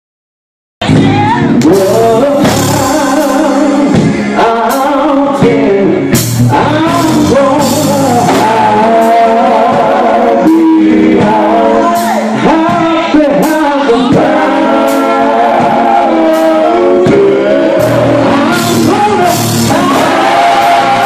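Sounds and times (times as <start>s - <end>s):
bass guitar: 0.8s - 21.0s
electric guitar: 0.8s - 21.0s
men's group singing gospel: 0.9s - 21.0s.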